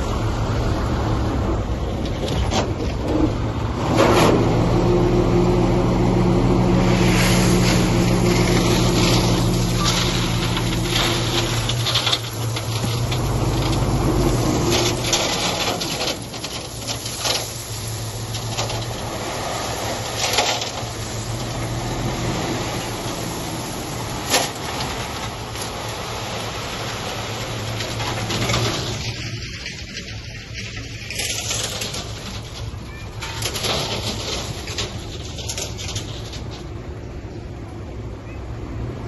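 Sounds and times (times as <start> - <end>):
diesel engine running: 0.0 - 38.8.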